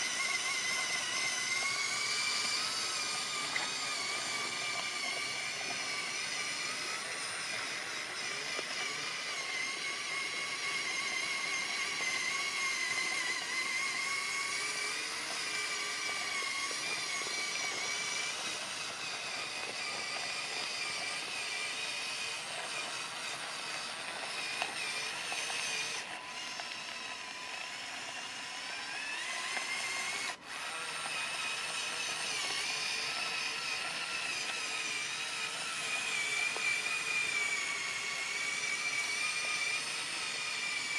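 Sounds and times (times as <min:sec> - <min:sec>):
toy electric motors whining: 0:00.0 - 0:40.9.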